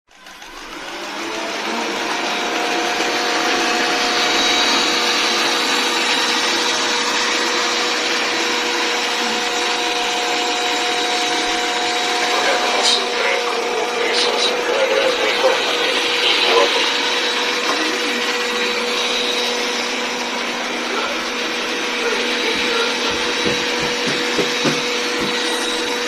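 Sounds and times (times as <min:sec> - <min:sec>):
robot vacuum cleaner whirring: 0:00.1 - 0:26.0
steady whine: 0:00.2 - 0:26.0.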